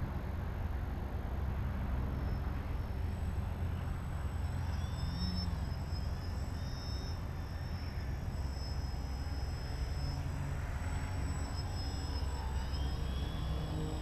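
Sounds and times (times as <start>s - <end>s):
model plane motor whine: 0.0s - 14.0s
steady low rumble: 0.0s - 14.0s.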